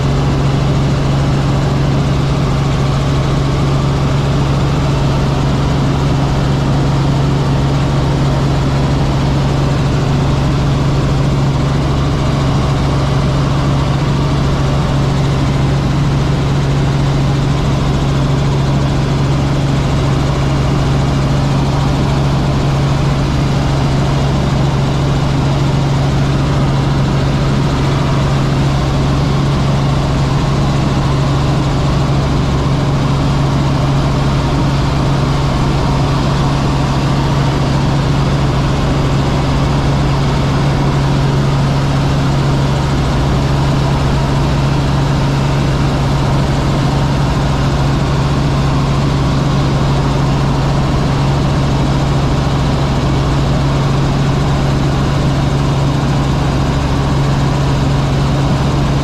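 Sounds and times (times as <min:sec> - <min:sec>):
helicopter cabin drone: 0:00.0 - 0:59.0.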